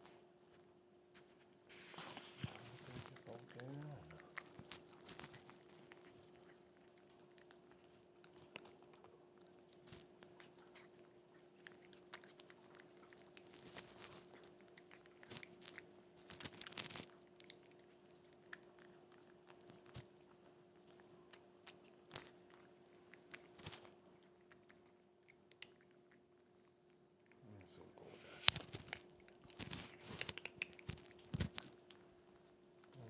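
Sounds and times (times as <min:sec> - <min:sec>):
cat crunching food: 0:01.2 - 0:33.0.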